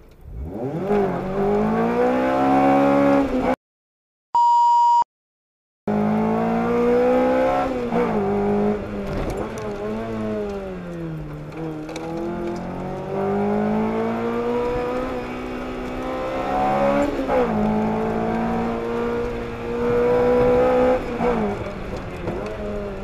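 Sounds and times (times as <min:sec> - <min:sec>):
sports car engine accelerating: 0:00.2 - 0:03.6, 0:05.9 - 0:23.0.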